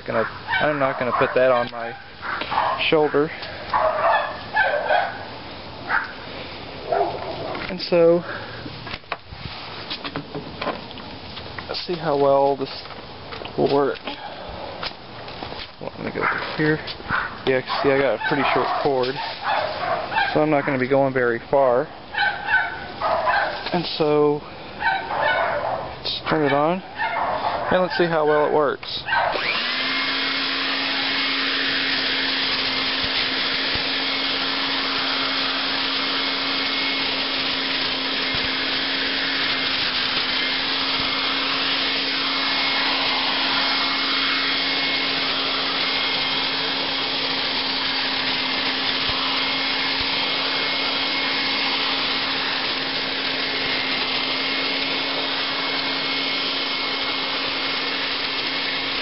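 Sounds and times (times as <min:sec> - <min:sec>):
leaf vacuum whining: 0:00.0 - 0:21.6, 0:27.6 - 0:59.0.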